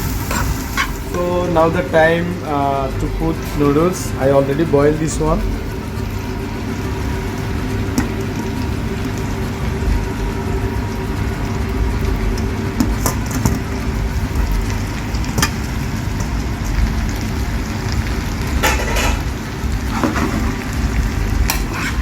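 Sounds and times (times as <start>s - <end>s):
food frying in a pan: 0.0s - 22.0s
low kitchen roar: 0.0s - 22.0s.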